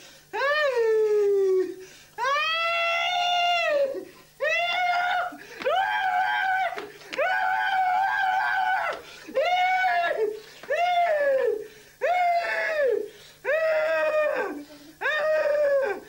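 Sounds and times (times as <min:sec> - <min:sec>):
young man screaming: 0:02.2 - 0:16.0.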